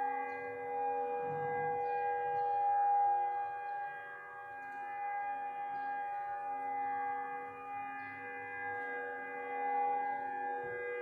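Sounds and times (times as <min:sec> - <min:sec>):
air-raid sirens steady tone: 0:00.0 - 0:11.0.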